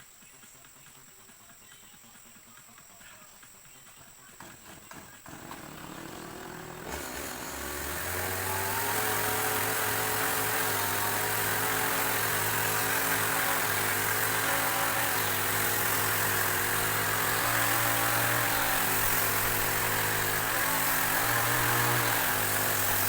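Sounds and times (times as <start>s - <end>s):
engine starting and running: 4.4s - 23.0s.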